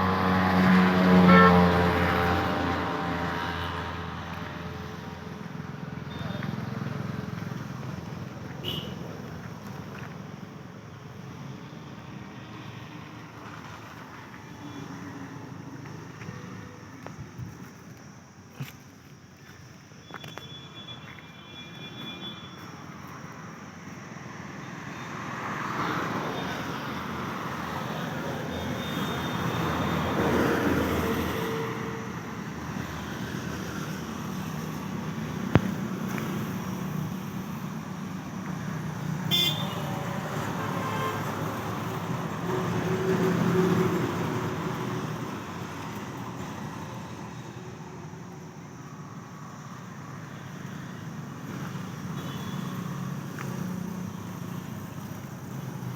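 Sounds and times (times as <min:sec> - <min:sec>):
road traffic: 0:00.0 - 0:55.9.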